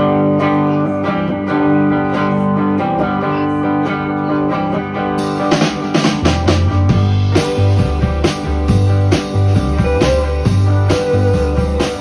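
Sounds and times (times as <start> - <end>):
electric guitars ringing chords: 0.0 - 12.0.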